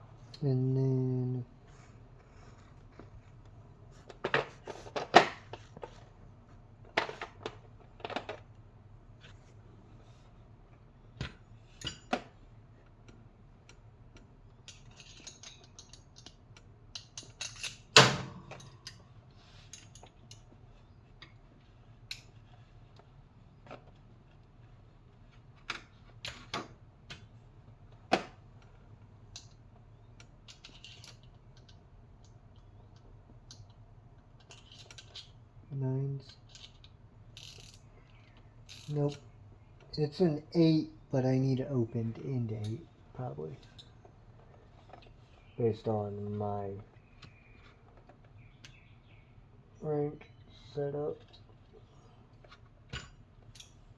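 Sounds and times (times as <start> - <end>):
faint steady low hum: 0.0 - 53.9.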